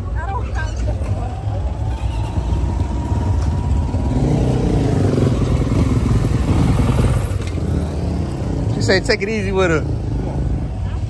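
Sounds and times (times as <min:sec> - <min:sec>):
dirt bike engine running: 0:01.0 - 0:11.0.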